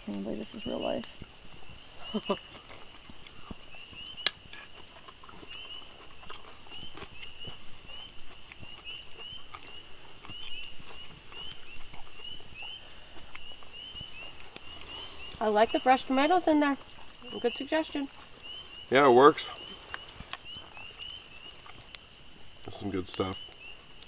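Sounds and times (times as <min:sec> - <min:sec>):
frogs peeping: 0:00.0 - 0:24.0.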